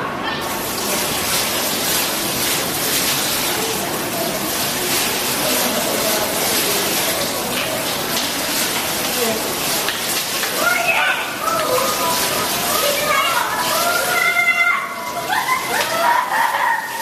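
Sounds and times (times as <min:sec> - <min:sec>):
water splashing into basin: 0:00.4 - 0:17.0.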